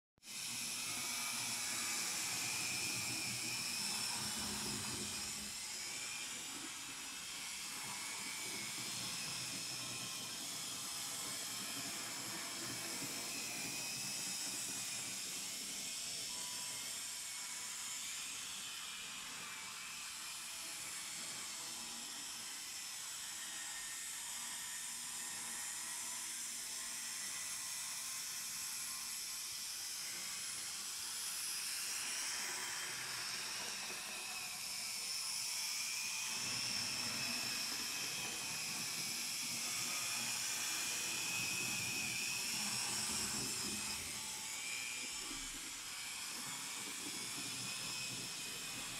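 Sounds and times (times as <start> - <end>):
model train motor whining: 0.2 - 48.9.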